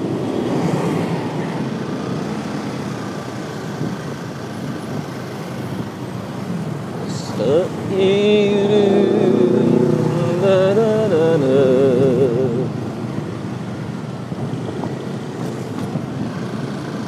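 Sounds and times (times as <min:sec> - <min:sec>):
motorcycle road and wind rush: 0:00.0 - 0:17.0.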